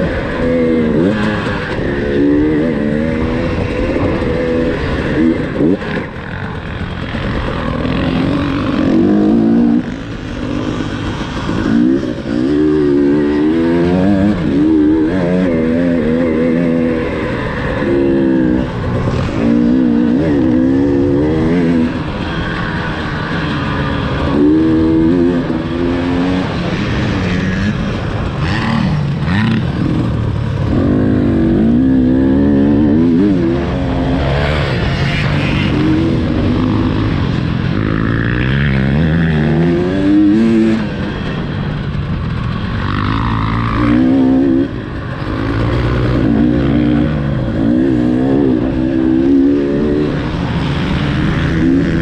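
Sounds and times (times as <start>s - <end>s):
two-stroke motorcycle revving: 0.0s - 52.0s.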